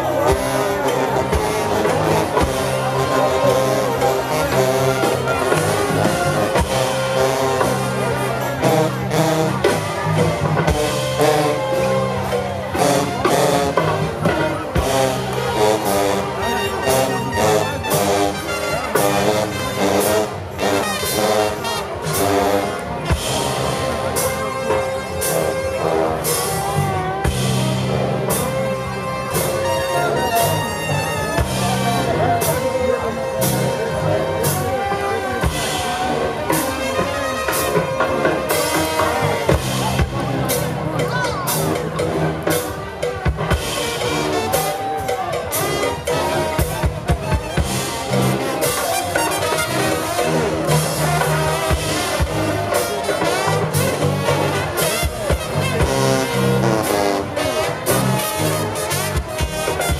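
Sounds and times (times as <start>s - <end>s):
brass band playing jazz: 0.0s - 59.9s
drums: 0.0s - 59.9s.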